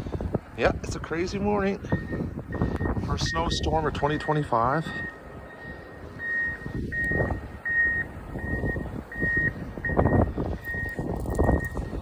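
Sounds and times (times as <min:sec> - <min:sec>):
reversing alarm beeping: 0:01.8 - 0:12.0.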